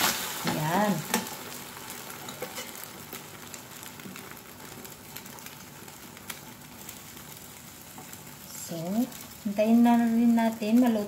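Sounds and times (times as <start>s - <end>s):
bread sizzling in a pan: 0.0s - 11.0s.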